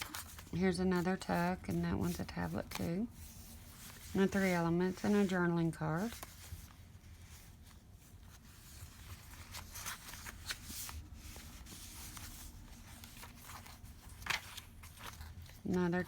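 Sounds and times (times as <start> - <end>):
paper pages turning: 0.0 - 5.3, 6.0 - 16.0
low steady hum: 0.0 - 16.0.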